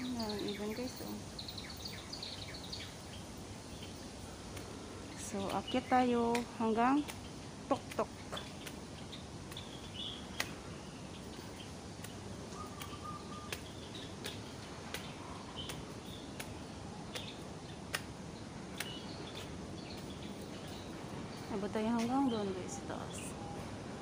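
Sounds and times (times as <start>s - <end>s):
birds chirping and calling: 0.0s - 23.8s
steady hiss: 0.0s - 24.0s.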